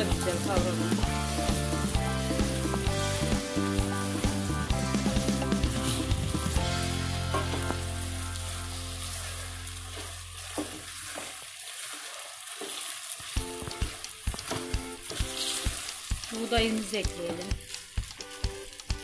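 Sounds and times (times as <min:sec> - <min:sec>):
background music: 0:00.0 - 0:09.8, 0:13.4 - 0:19.0
food sizzling in oil: 0:00.0 - 0:19.0.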